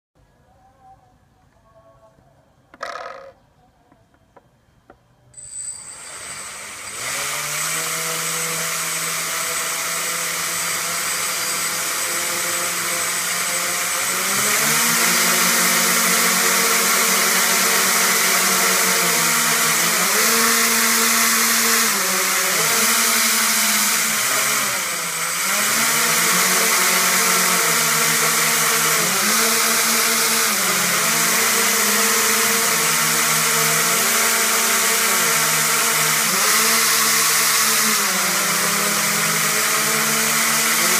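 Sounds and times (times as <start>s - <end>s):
drone motors and propellers humming: 5.8s - 40.9s.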